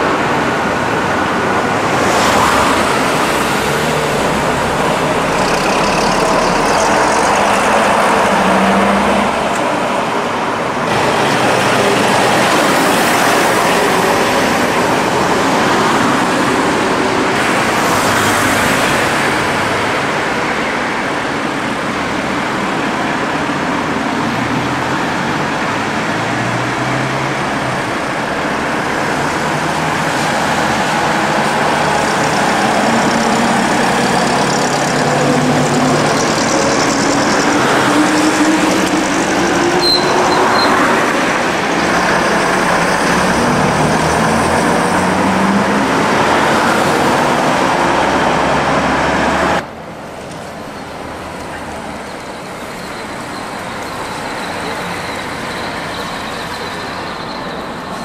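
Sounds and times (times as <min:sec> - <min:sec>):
diesel bus engines accelerating: 0:00.0 - 0:58.0
heavy vehicles running: 0:00.0 - 0:58.0.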